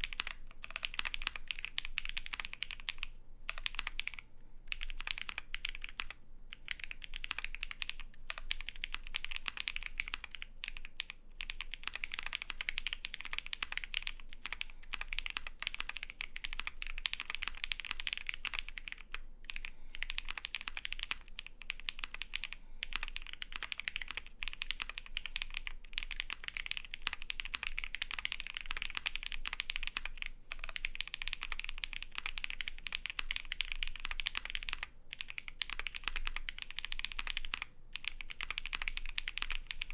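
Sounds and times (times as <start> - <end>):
mechanical keyboard clacking: 0.0 - 39.9.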